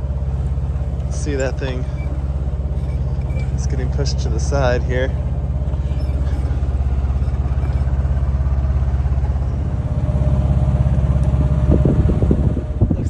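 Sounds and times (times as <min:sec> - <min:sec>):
boat engine droning: 0:00.0 - 0:12.9.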